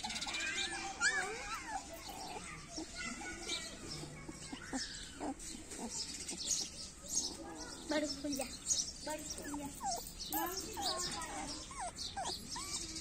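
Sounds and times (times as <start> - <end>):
puppy whining: 0.0 - 13.0.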